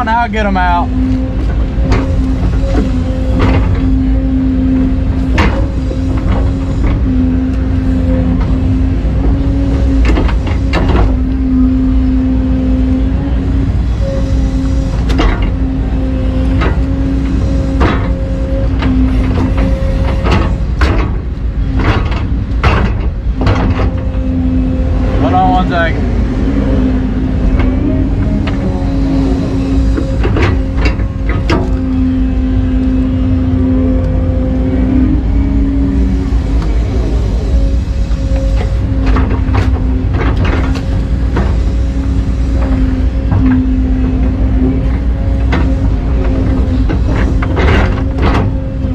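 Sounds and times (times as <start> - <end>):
excavator diesel engine humming: 0.0 - 48.9.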